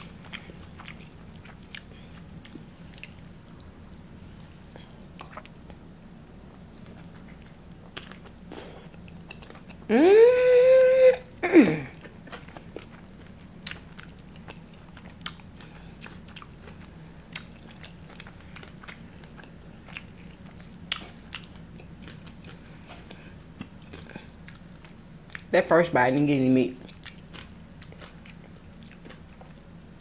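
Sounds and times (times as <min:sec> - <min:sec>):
mouth chewing food: 0:00.0 - 0:03.8, 0:04.5 - 0:05.8, 0:06.5 - 0:09.9, 0:11.9 - 0:25.5, 0:26.8 - 0:30.0.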